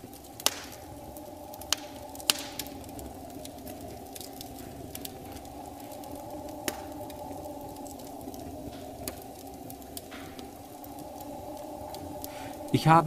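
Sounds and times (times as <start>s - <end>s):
fire crackling pops: 0.0s - 13.0s
steady low drone: 0.0s - 13.0s.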